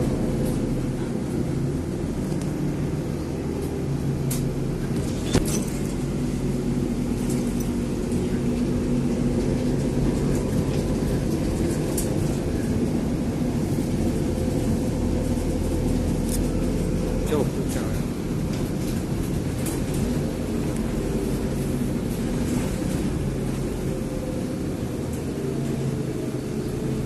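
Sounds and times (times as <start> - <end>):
low engine drone: 0.0 - 27.0.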